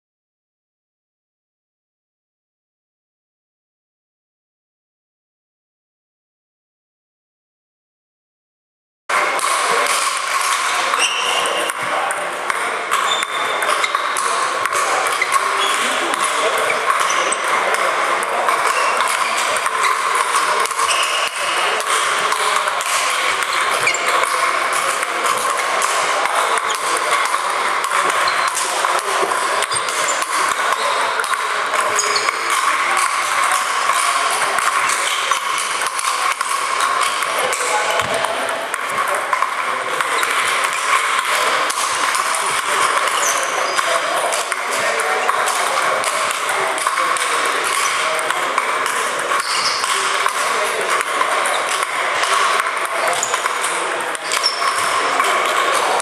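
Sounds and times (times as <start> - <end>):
table tennis balls clicking: 9.2 - 56.0.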